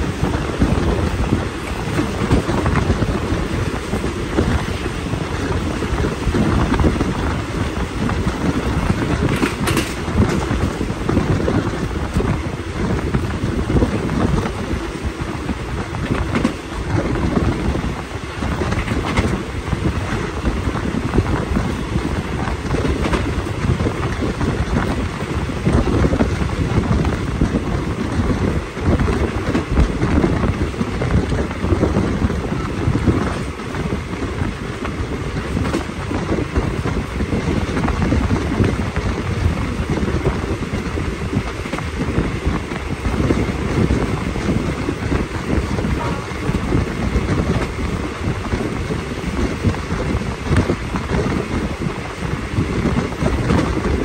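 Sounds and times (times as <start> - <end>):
train carriage rumbling on track: 0.0 - 54.0
wind buffeting microphone: 0.0 - 54.0.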